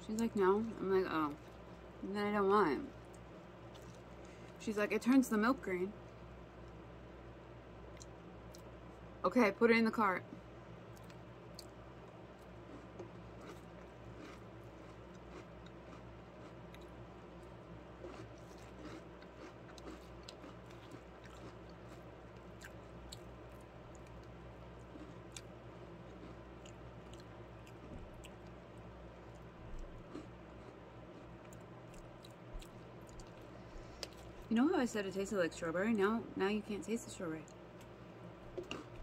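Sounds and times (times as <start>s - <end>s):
faint chewing of crunchy cereal: 0.0s - 4.7s, 7.8s - 9.1s, 10.2s - 34.6s, 37.0s - 39.0s.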